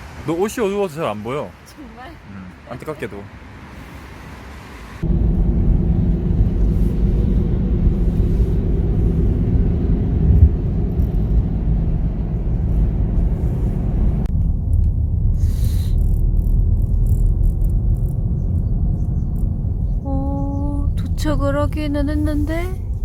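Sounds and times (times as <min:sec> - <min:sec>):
road rumble: 0:00.0 - 0:23.0
car engine driving: 0:02.2 - 0:23.0.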